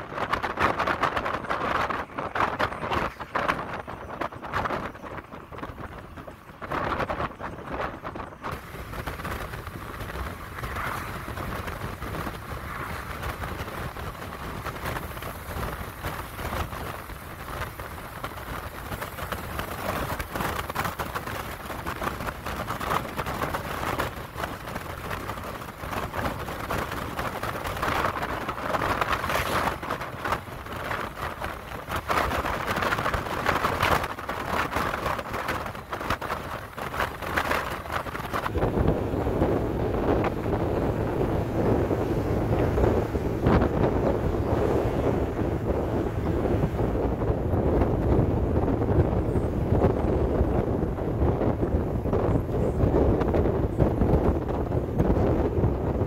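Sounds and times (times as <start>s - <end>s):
car road noise: 0.0s - 56.0s
gusts buffeting microphone: 0.0s - 56.0s
rushing wind: 0.0s - 56.0s.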